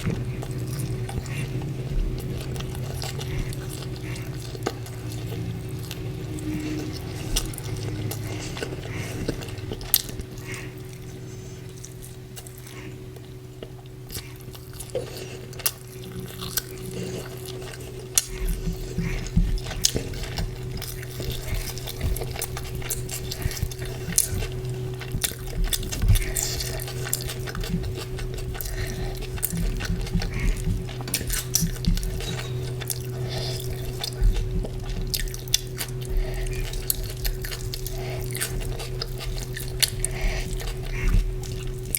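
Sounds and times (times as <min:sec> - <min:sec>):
steady low hum: 0:00.0 - 0:41.9
wet chewing and smacking: 0:00.0 - 0:41.9.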